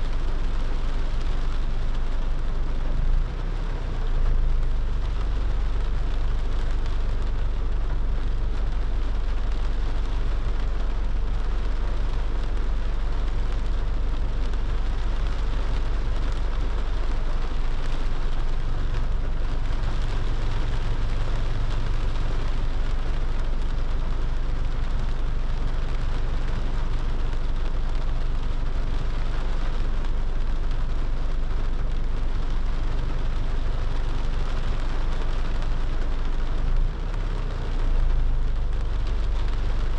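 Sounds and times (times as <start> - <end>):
car driving on wet road: 0.0 - 39.9
rain hiss: 0.0 - 39.9.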